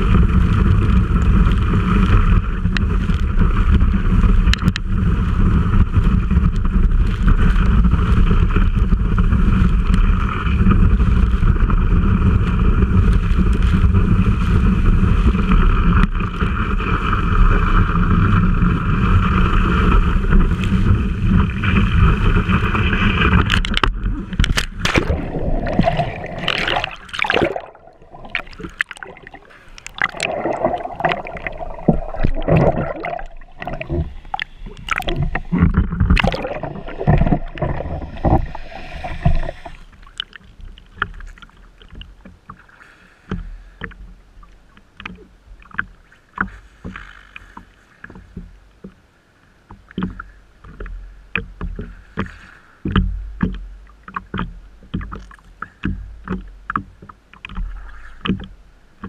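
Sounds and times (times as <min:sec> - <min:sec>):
water churning and rushing: 0:00.0 - 0:48.8, 0:49.6 - 0:59.0
water lapping against board: 0:00.0 - 0:59.0.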